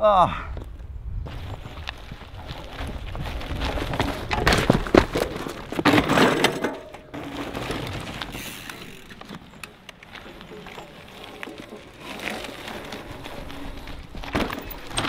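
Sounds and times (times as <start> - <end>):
bike tyres crunching over gravel: 0.6 - 15.0.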